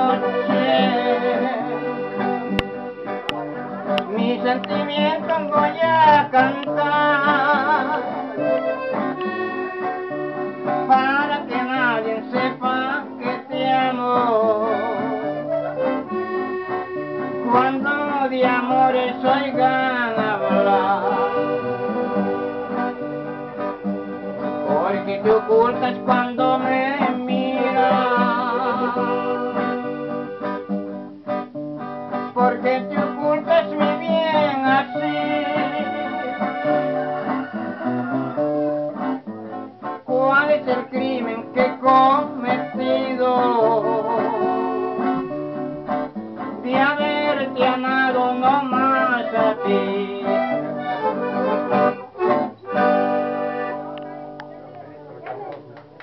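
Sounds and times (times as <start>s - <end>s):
acoustic guitars strumming: 0.0s - 56.0s.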